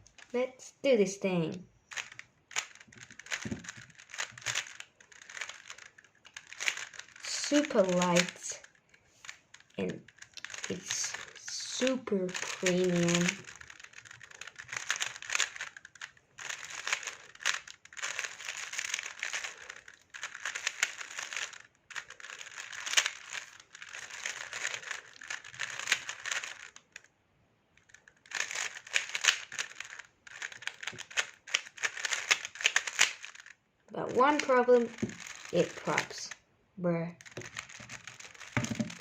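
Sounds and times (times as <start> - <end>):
plastic puzzle cube clicking: 0.0 - 0.3, 1.9 - 27.1, 27.8 - 36.4, 37.2 - 39.0.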